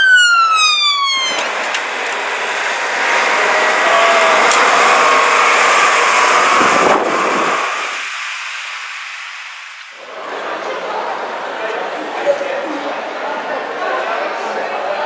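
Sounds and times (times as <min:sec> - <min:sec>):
bus diesel engine driving by: 0:00.4 - 0:14.6.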